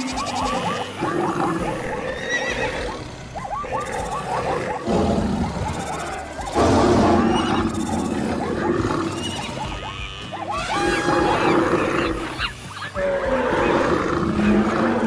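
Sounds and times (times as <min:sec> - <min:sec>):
animal calls: 0:00.0 - 0:15.0
big cat roars: 0:00.4 - 0:09.6, 0:10.7 - 0:12.4, 0:13.0 - 0:15.0.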